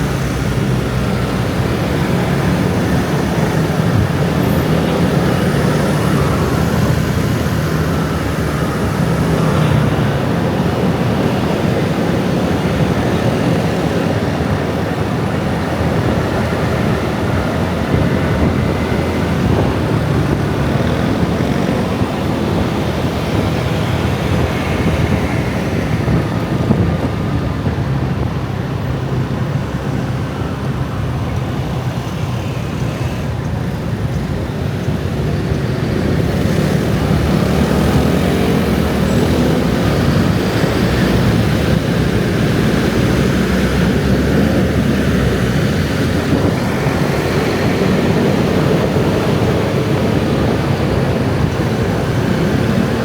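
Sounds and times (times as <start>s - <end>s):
motorbike and scooter traffic: 0.0s - 53.0s.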